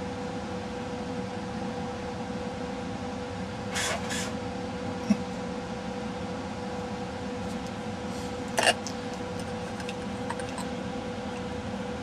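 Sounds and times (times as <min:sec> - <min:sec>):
equipment humming: 0:00.0 - 0:12.0.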